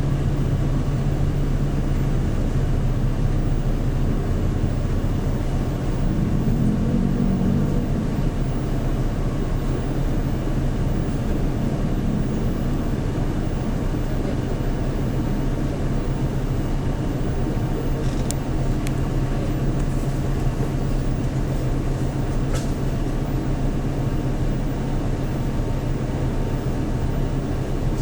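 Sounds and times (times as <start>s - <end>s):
bus engine low hum: 0.0s - 28.0s.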